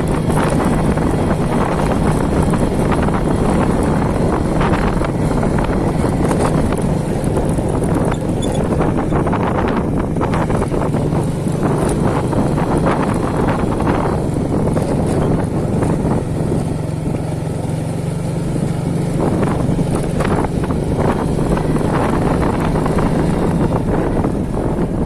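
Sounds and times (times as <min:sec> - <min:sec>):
wind gusting over microphone: 0:00.0 - 0:25.0.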